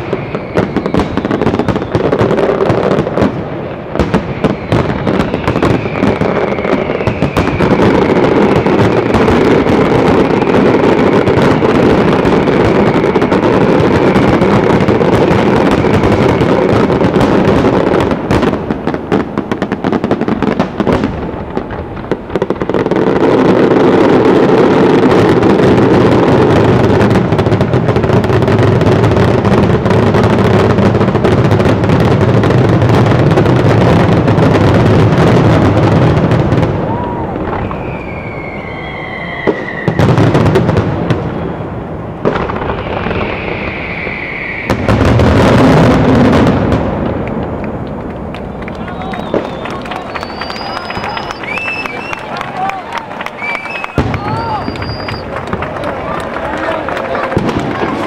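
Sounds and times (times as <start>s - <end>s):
falling firework whistle: 0.0s - 47.3s, 48.5s - 58.0s
fireworks bursts and crackle: 0.0s - 58.0s.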